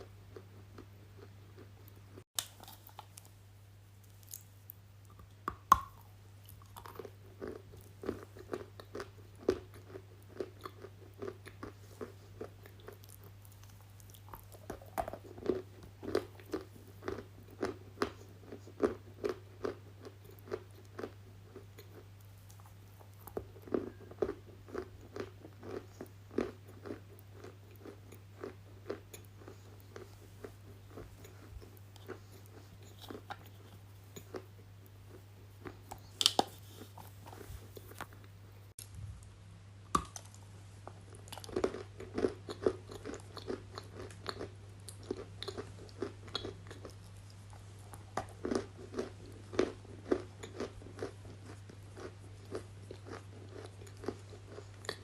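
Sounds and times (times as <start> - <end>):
person chewing something crunchy: 0.1 - 3.4, 4.0 - 38.8, 39.9 - 55.0.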